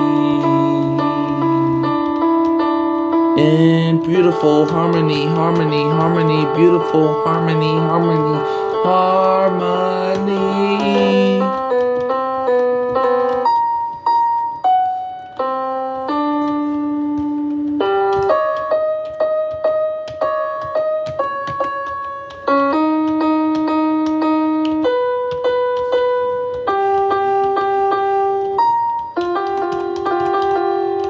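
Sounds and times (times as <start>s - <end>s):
piano-like keyboard playing: 0.0s - 31.0s.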